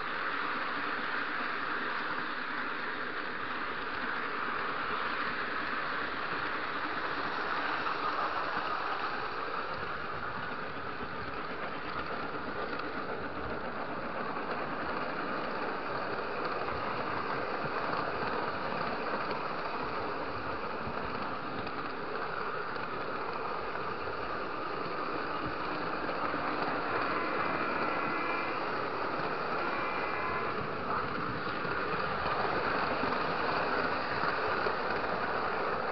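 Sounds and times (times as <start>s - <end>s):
model train running on track: 0.0s - 35.9s.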